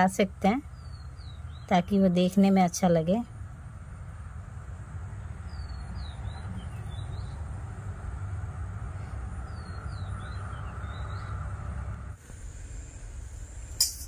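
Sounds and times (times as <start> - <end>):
songbird chirping: 0.0 - 12.1
low background rumble: 0.0 - 14.0.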